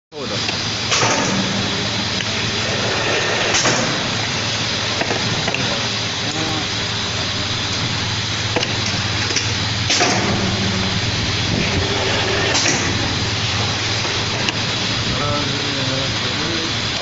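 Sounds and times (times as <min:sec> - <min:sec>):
winding machine humming and whirring: 0:00.1 - 0:17.0.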